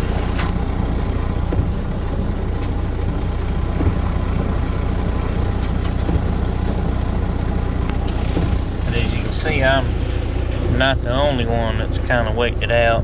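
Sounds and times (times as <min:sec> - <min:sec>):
hail ticking on metal: 0:00.0 - 0:13.0
heavy rain drumming on a truck: 0:00.0 - 0:13.0
truck engine idling: 0:00.0 - 0:13.0.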